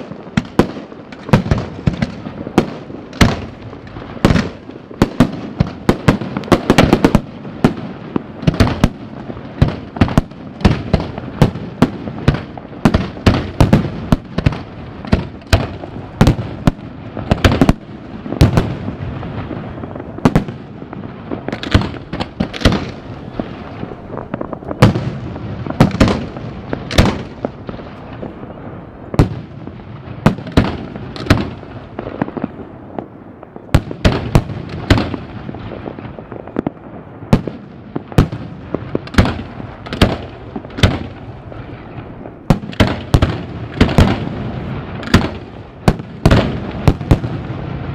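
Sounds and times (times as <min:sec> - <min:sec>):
fireworks bangs: 0:00.0 - 0:47.9.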